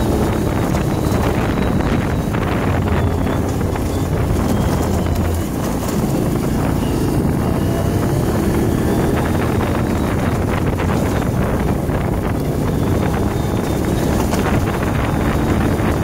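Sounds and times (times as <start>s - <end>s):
off-road vehicle engine running: 0.0s - 16.0s
wind on microphone: 0.0s - 16.0s.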